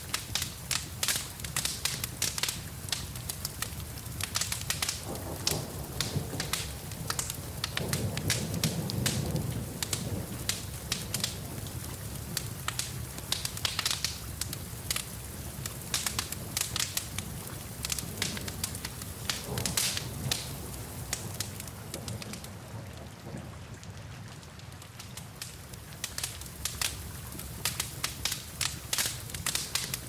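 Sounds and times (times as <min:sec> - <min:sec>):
rain falling: 0:00.0 - 0:30.0
wood fire crackling and popping: 0:00.0 - 0:30.0.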